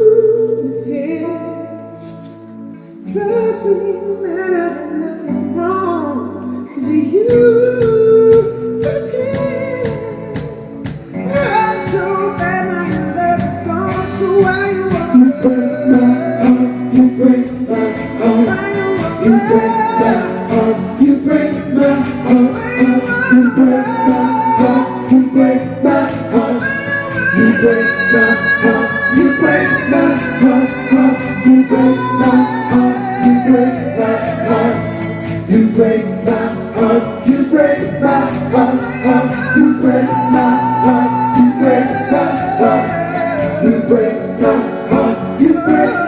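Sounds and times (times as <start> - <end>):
live pop band: 0.0 - 46.0
person singing: 3.0 - 46.0.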